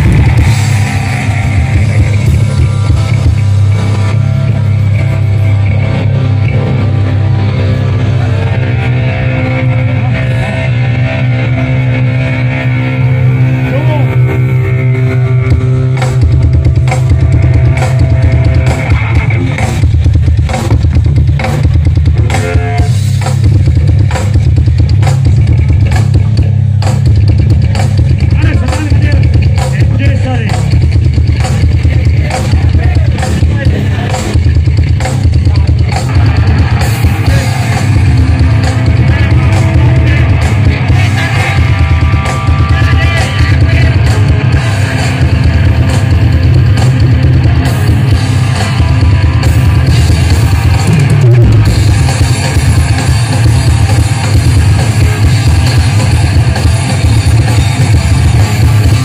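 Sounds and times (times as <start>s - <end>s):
live heavy rock band: 0.0s - 59.0s.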